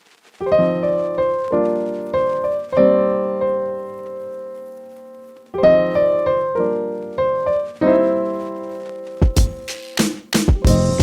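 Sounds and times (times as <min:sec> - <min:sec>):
piano music: 0:00.4 - 0:11.0.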